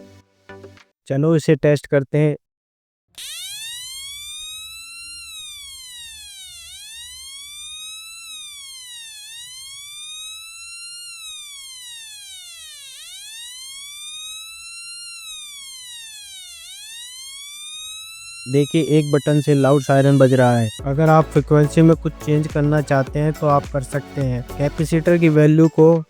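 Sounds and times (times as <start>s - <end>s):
buzzy electronic siren wailing: 3.2s - 25.4s.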